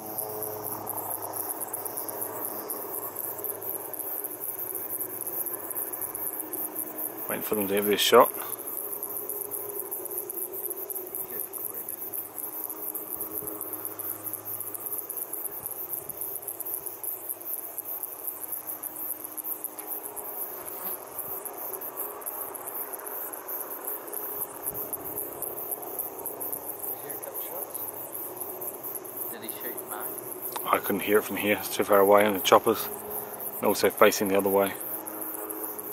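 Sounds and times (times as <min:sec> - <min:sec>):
distant helicopters droning: 0:00.0 - 0:35.9
insects chirring: 0:00.0 - 0:35.9.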